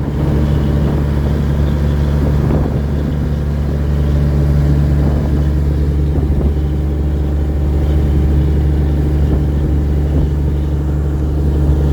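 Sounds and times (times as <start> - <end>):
boat engine droning: 0.0 - 11.9.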